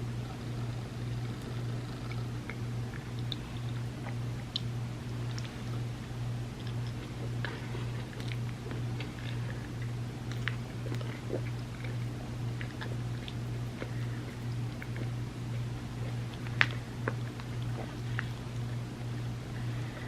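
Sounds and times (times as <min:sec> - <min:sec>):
soft chewing and mouth sounds: 0:00.0 - 0:20.0
steady low hum: 0:00.0 - 0:20.0.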